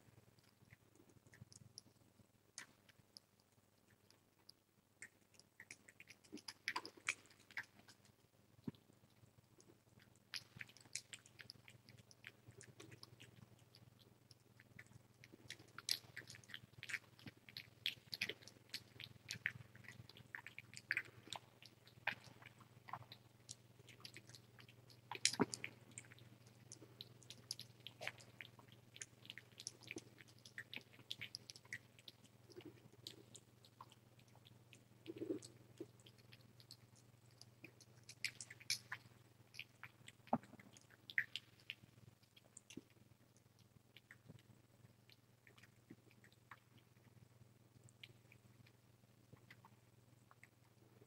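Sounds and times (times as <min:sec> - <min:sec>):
kitten suckling from bottle: 0:05.1 - 0:47.2.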